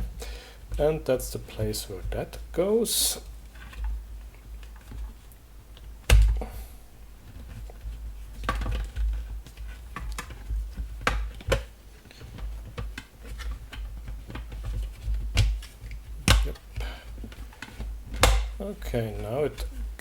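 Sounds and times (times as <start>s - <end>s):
fan parts knocking and clicking: 0.0s - 20.0s.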